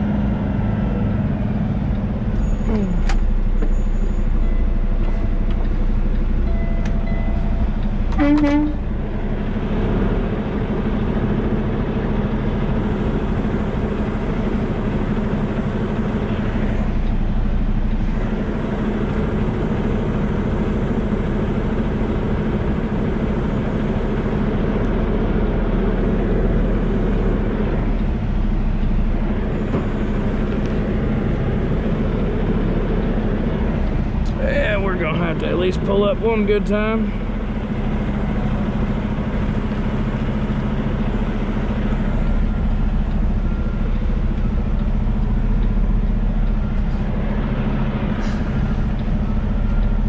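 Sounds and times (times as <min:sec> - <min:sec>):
truck diesel engine humming: 0:00.0 - 0:50.0.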